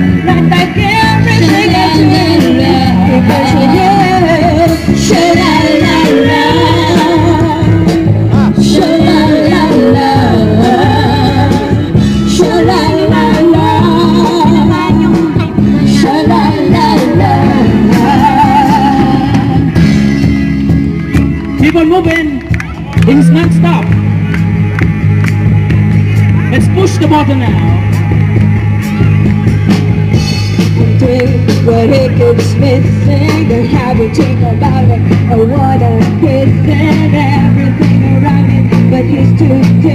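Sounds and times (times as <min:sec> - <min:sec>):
pop band music: 0:00.0 - 0:39.9.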